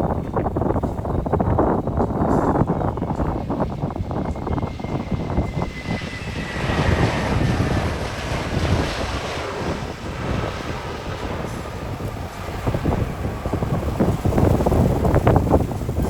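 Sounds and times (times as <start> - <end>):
jet airliner engine rumble: 0.0 - 16.0
wind buffeting microphone: 0.0 - 16.0.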